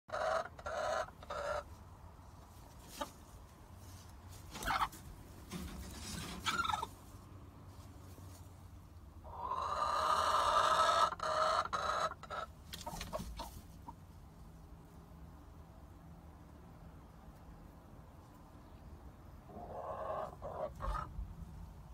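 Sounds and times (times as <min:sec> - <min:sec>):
hens clucking: 0:00.1 - 0:14.7, 0:17.7 - 0:21.9.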